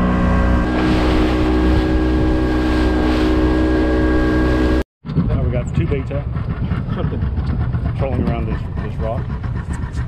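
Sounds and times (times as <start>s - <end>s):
outboard motor running: 0.0s - 10.0s
water and wind rushing: 0.0s - 10.0s.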